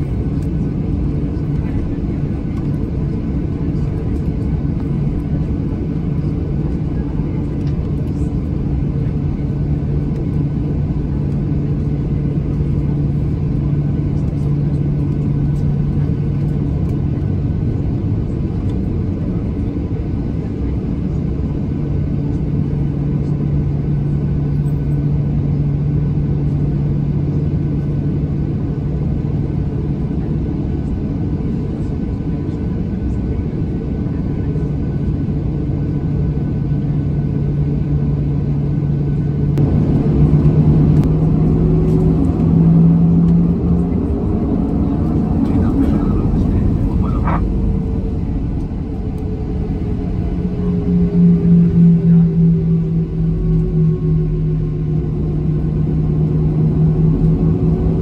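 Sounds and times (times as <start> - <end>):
aircraft engine hum in cabin: 0.0 - 58.0.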